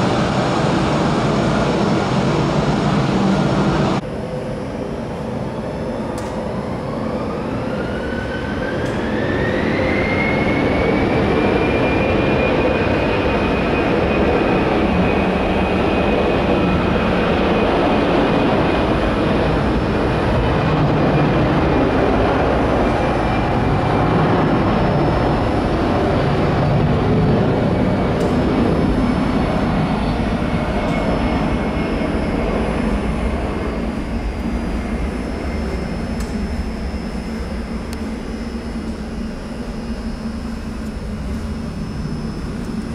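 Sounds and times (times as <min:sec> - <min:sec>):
jet engines spooling up: 0:00.0 - 0:42.9.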